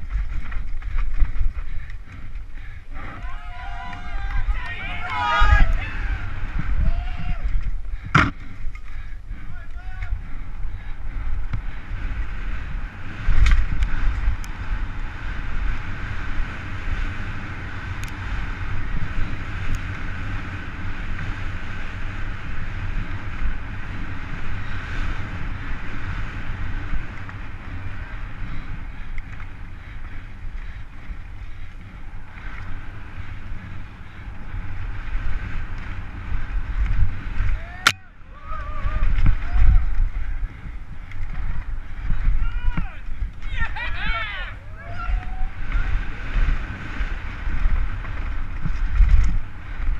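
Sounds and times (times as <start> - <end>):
bike tyres rattling on dirt: 0.0 - 49.9
wind buffeting microphone: 0.0 - 49.9.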